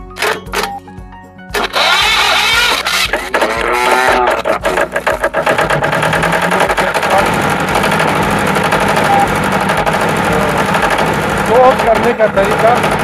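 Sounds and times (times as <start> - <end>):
generator engine cranking: 0.0 - 0.8, 1.5 - 13.0
generator engine running: 1.5 - 13.0.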